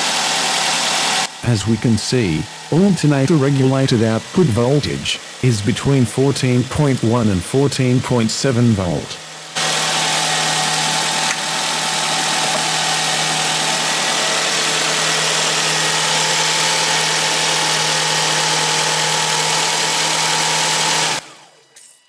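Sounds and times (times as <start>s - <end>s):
car engine idling: 0.0s - 21.5s.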